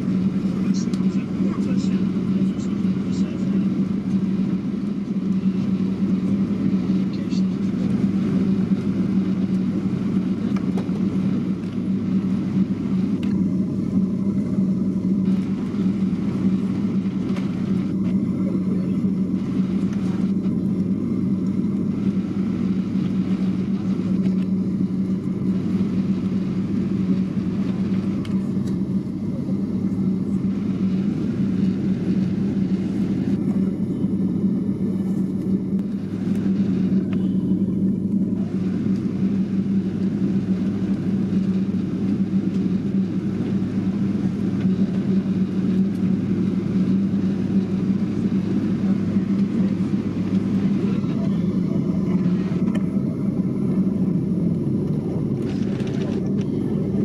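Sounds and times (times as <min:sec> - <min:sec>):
constant hum: 0:00.0 - 0:57.0
vehicle interior drone: 0:00.0 - 0:57.0.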